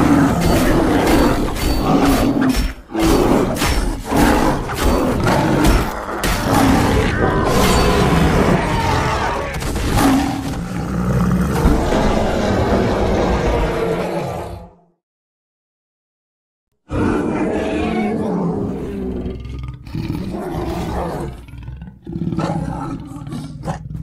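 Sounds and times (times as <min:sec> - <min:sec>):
creature roars and growls: 0:00.0 - 0:14.9, 0:16.8 - 0:24.0.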